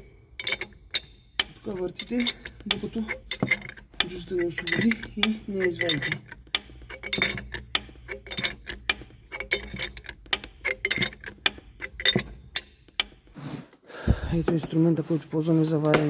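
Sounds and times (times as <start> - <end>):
wrench metallic clicks: 0.0 - 13.4.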